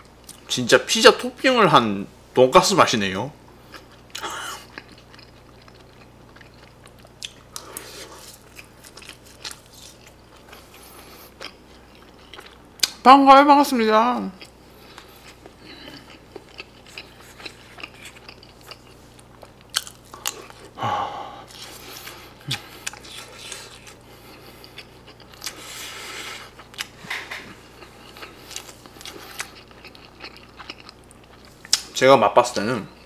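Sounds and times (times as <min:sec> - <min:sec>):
man chewing food: 0:00.0 - 0:00.5, 0:03.5 - 0:13.0, 0:14.4 - 0:32.0.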